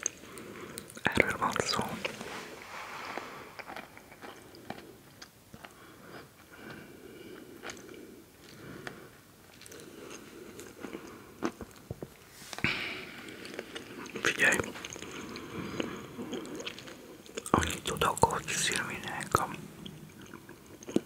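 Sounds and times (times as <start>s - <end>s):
person chewing: 0.0s - 21.0s.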